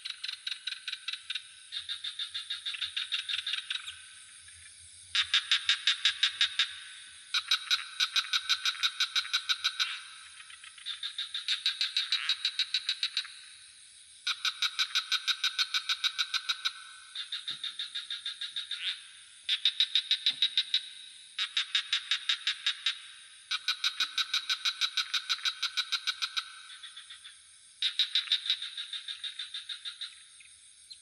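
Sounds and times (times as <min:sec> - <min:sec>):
frogs calling in pulsed trills: 0:00.0 - 0:31.0.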